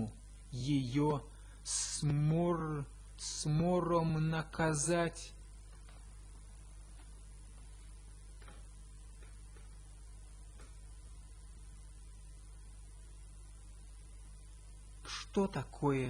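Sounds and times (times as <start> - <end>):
faint electrical mains hum: 0.0 - 16.0
low background hiss: 0.0 - 16.0.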